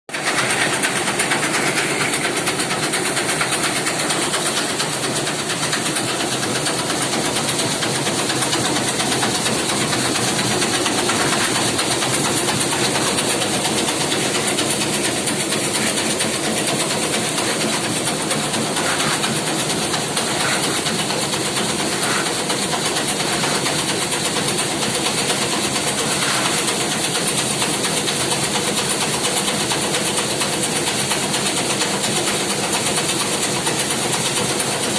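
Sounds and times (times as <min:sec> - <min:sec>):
roasting machine rumbling and rattling: 0:00.1 - 0:34.9.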